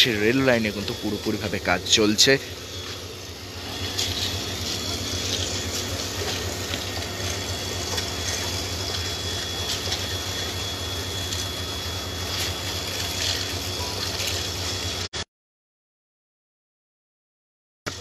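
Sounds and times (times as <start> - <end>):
low hum: 0.0 - 15.1.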